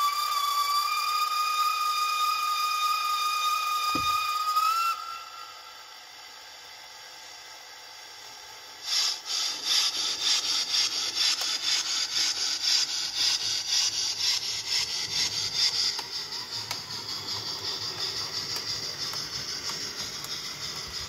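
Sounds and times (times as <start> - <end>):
rhythmic steam chuffs: 0.0 - 21.0.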